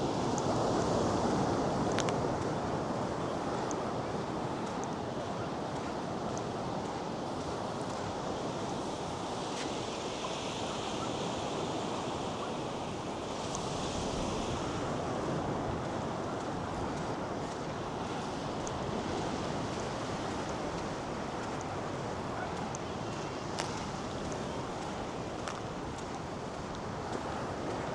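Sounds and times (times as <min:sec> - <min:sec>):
surf breaking on a beach: 0:00.0 - 0:27.9.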